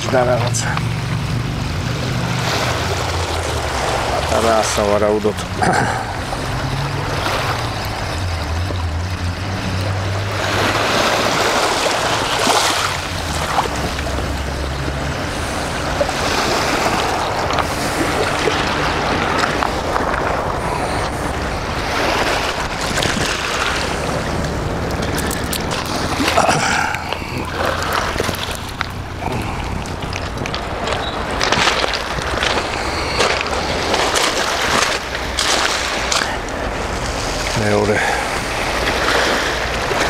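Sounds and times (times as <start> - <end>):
sea waves washing ashore: 0.0 - 40.0
wind rumbling on microphone: 0.0 - 40.0.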